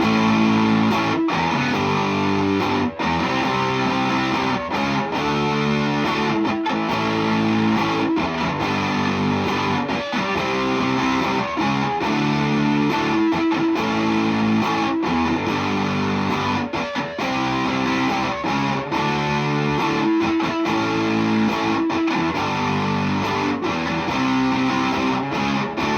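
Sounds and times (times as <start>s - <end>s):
distorted electric guitar chords: 0.0s - 25.9s.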